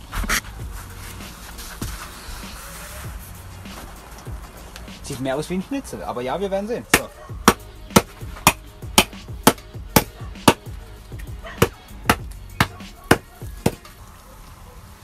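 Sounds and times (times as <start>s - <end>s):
background music with percussive beat: 0.0s - 14.0s.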